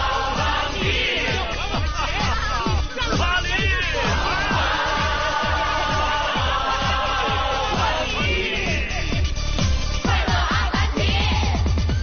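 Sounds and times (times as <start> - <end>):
upbeat pop song: 0.0 - 12.0.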